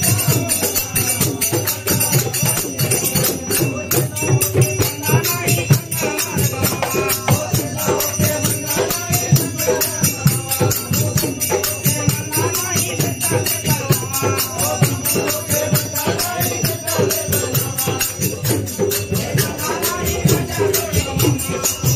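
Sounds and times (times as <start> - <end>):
group devotional singing: 0.0 - 21.9
jingling percussion rhythm: 0.0 - 21.9
tabla and dholak drumming: 0.0 - 21.9.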